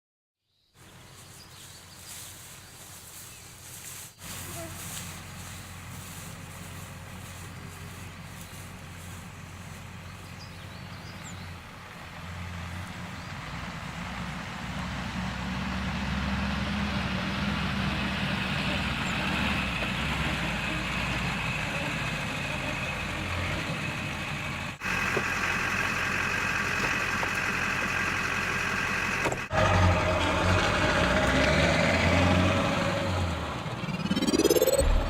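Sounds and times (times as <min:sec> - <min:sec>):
engine running: 0:00.8 - 0:35.0.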